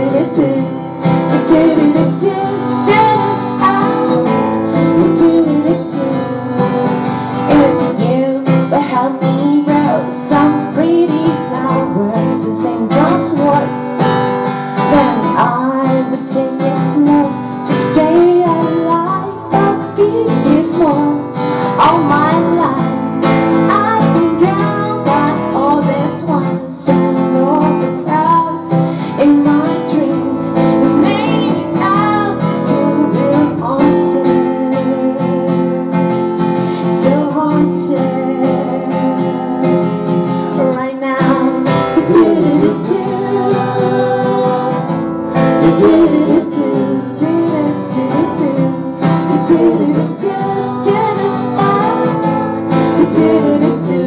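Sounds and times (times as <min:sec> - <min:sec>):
strummed acoustic guitar: 0:00.0 - 0:54.0
woman singing: 0:00.0 - 0:54.0.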